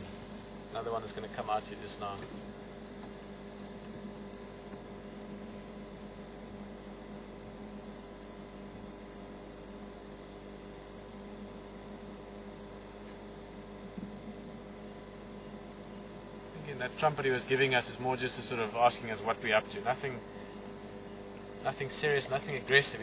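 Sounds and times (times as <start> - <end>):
electrical hum with steady tones: 0.0 - 23.0.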